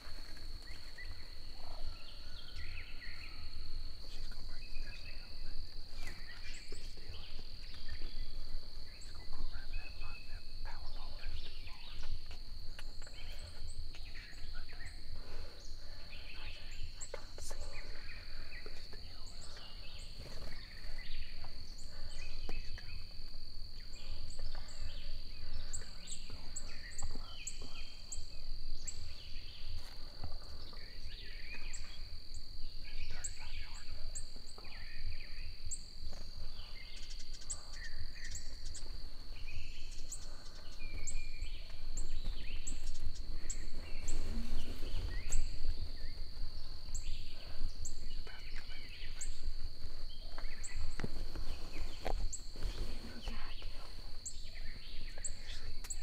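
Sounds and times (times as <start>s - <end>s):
high insect drone: 0.0s - 56.0s
songbirds chirping: 0.0s - 56.0s.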